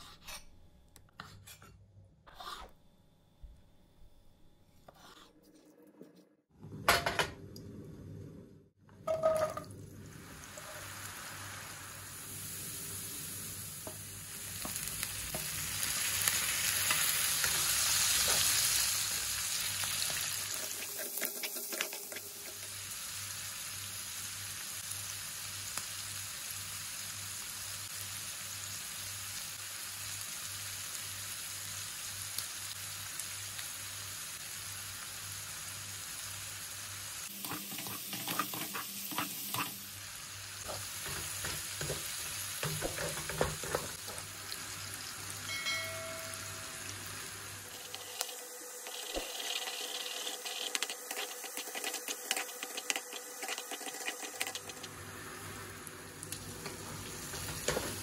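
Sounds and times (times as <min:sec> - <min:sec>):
food sizzling in oil: 0:09.1 - 0:58.0.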